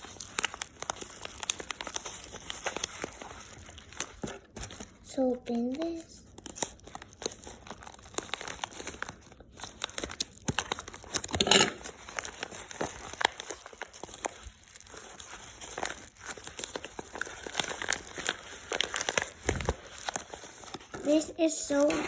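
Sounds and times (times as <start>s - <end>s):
packaging crinkling: 0.0s - 22.0s.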